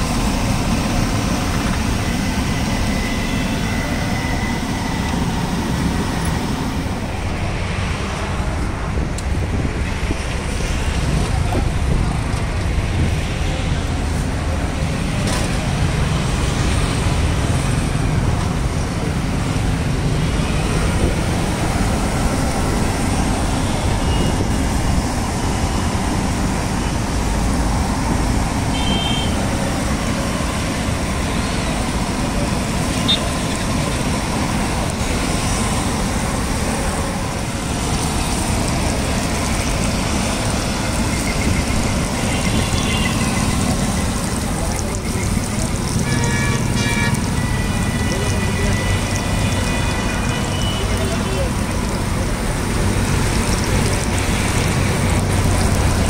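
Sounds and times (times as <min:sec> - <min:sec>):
roadside traffic: 0:00.0 - 0:56.0.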